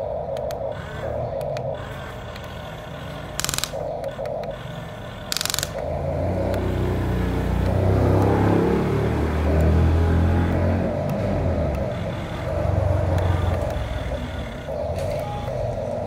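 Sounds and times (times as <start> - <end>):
engine-like drone: 0.0 - 16.0
toy motor whirs: 0.0 - 16.0
harsh bursts: 0.6 - 16.0.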